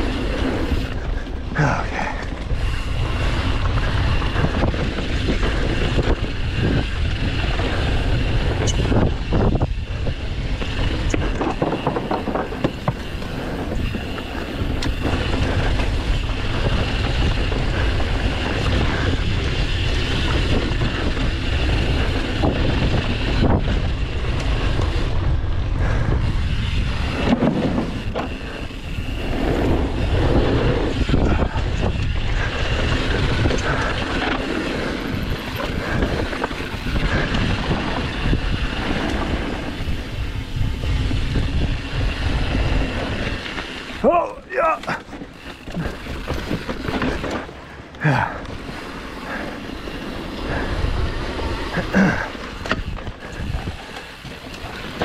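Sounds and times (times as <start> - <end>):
bike tyre noise: 0.0 - 55.0
wind buffeting microphone: 0.0 - 55.0
bike knocks and rattles: 2.2 - 55.0.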